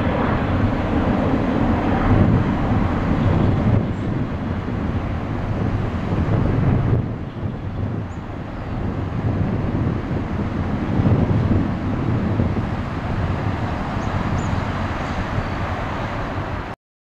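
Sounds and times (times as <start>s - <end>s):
jet airliner climbing: 0.0s - 16.8s.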